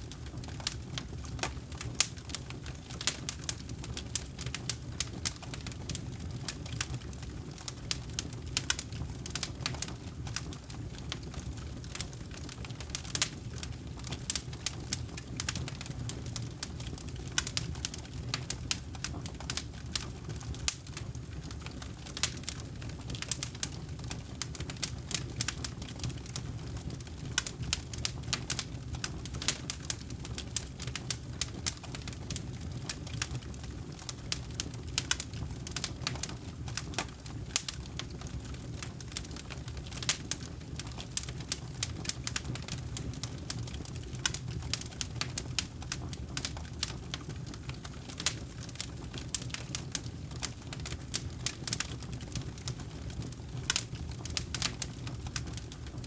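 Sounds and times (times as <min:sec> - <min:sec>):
low rumble of flames: 0:00.0 - 0:56.0
wood crackling and popping: 0:00.0 - 0:56.0.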